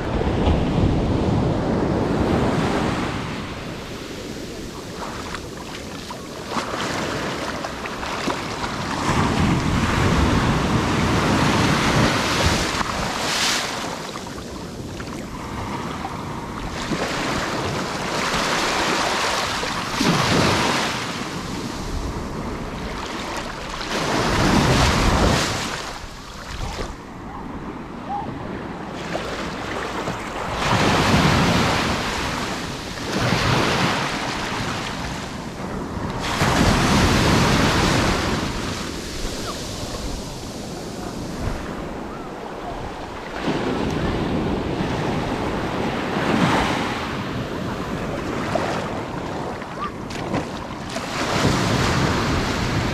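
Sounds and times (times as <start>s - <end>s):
ocean surf washing over sand: 0.0s - 52.9s.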